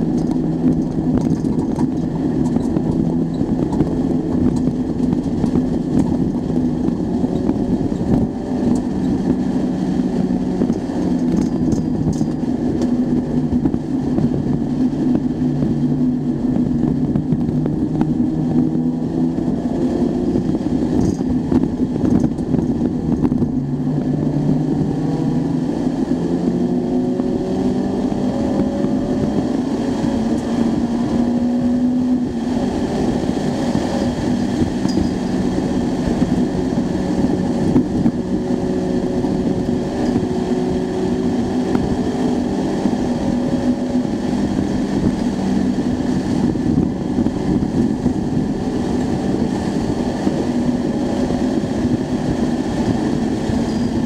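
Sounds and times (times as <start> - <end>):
car engine revving: 0.0 - 54.0
road noise: 0.0 - 54.0.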